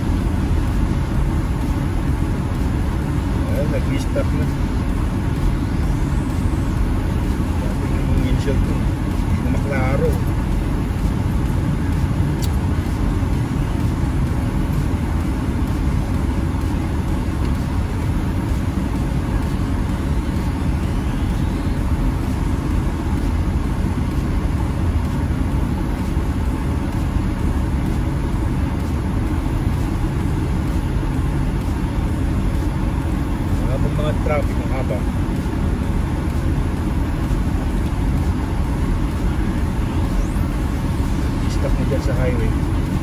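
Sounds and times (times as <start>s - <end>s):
car engine and tyres rumbling: 0.0s - 43.0s.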